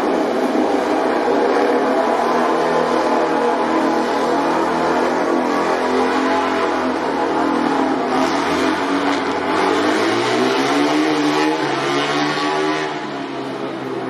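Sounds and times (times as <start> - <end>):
racing motorcycle engines revving: 0.0 - 14.0.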